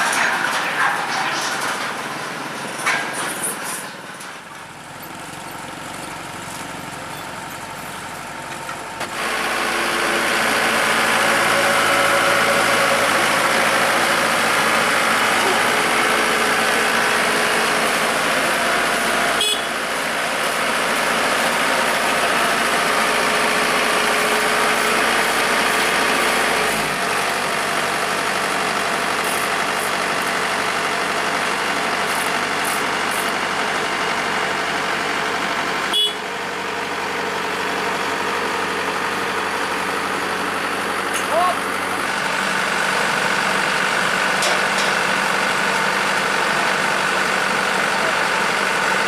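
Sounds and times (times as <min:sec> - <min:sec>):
combine harvester diesel engine: 0:00.0 - 0:49.0.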